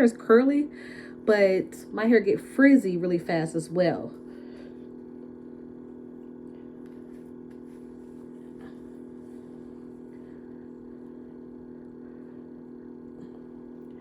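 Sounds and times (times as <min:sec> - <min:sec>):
steady low background hum: 0:00.0 - 0:14.0.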